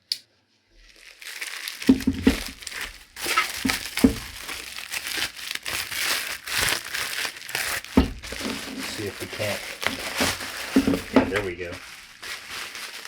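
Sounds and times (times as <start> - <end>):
bubble wrap crinkling: 0.6 - 13.0.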